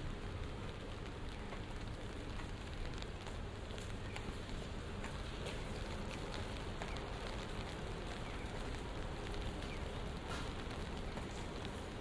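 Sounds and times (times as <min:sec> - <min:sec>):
light rain on pavement: 0:00.0 - 0:12.0
raindrop ticks: 0:00.0 - 0:12.0.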